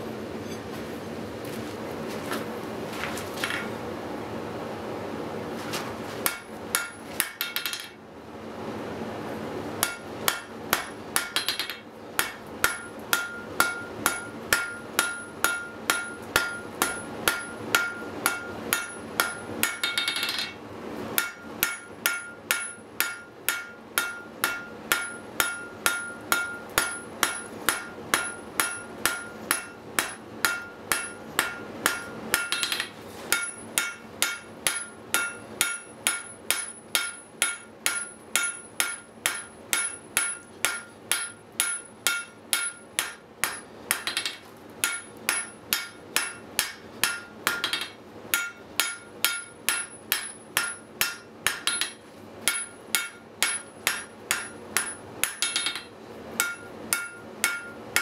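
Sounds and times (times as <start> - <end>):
hammer striking steel on anvil: 6.2 - 8.0, 9.8 - 20.6, 21.2 - 58.0.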